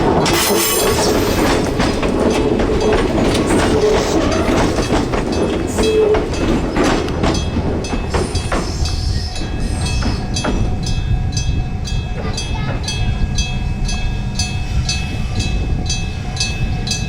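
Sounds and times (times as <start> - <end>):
train running noise: 0.0 - 17.0
train wheels clacking: 0.0 - 17.0.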